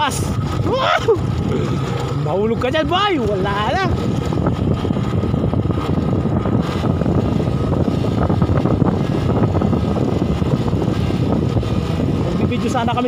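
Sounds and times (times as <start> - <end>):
motorcycle engine rumble: 0.0 - 13.0
wind noise on microphone: 0.0 - 13.0.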